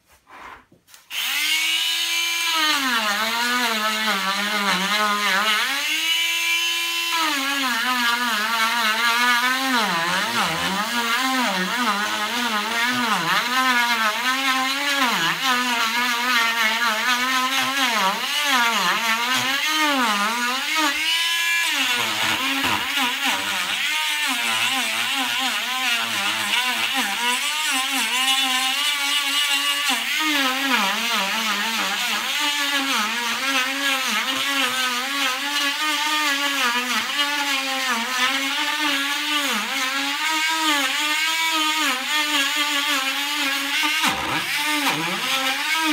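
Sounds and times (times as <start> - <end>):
rotary tool carving wood: 0.1 - 45.9.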